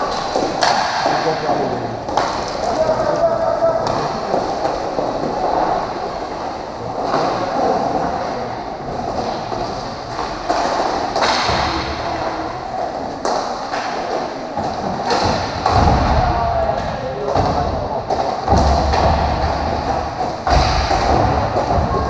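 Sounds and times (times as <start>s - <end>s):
rumble of skate wheels: 2.0s - 22.0s.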